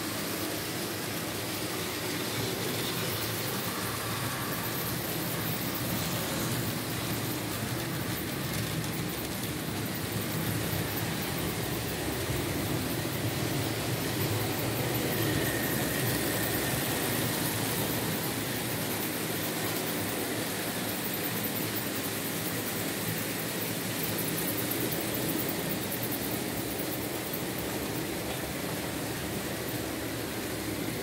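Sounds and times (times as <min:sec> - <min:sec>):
model train wheels rumbling: 0:00.0 - 0:31.0.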